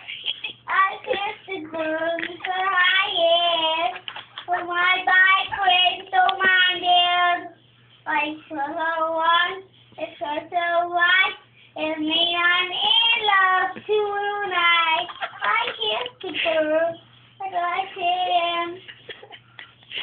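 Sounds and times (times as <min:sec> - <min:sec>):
boy singing: 0:00.5 - 0:18.8.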